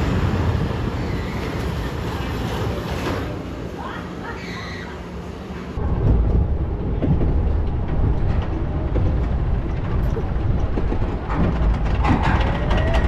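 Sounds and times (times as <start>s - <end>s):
roller coaster rumbling on track: 0.0s - 13.0s.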